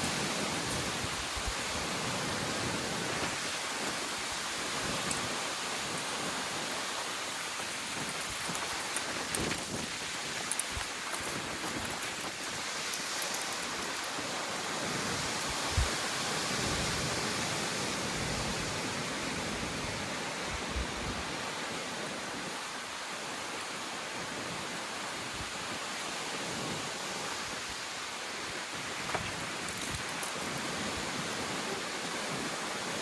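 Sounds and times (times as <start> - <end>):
wind-driven rain: 0.0 - 33.0.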